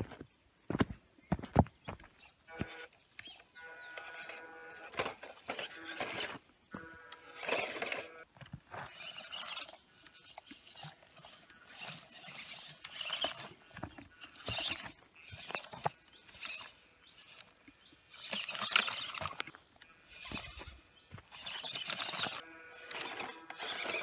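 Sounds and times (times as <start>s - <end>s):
tyres scrabbling on rock: 0.0s - 24.0s
electric motor whirring: 2.2s - 8.3s, 8.9s - 24.0s.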